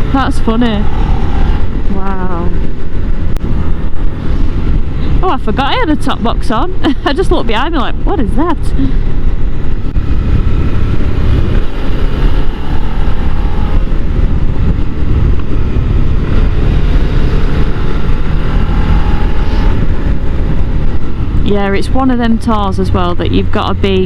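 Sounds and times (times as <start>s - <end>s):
motorcycle engine running: 0.0s - 24.0s
wind rushing over helmet: 0.0s - 24.0s.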